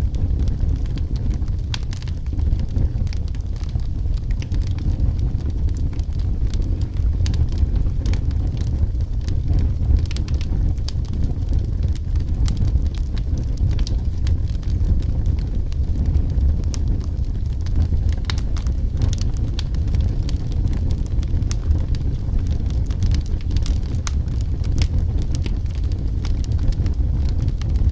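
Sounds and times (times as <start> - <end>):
fire low rumble: 0.0 - 27.9
firewood crackling and popping: 0.0 - 27.9.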